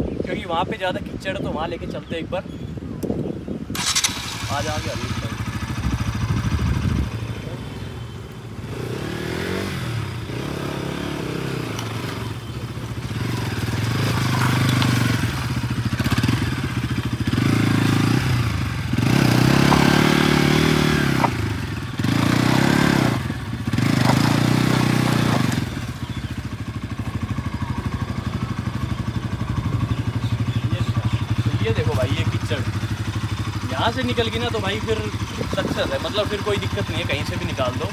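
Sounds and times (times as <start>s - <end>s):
motorcycle engine revving: 3.6s - 37.9s.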